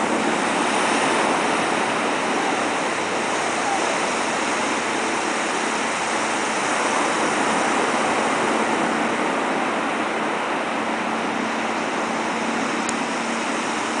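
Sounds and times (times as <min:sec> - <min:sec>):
faint engine hum: 0:00.0 - 0:14.0
water rushing and spray: 0:00.0 - 0:14.0.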